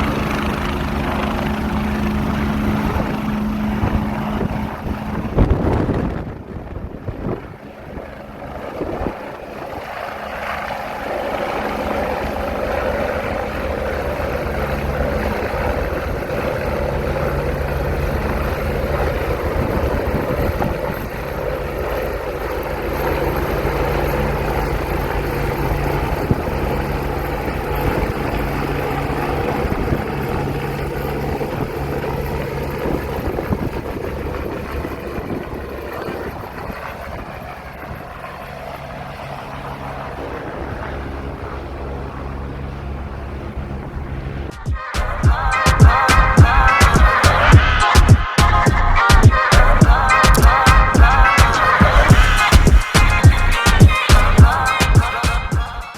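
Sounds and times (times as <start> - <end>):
helicopter hovering: 0.0 - 55.9.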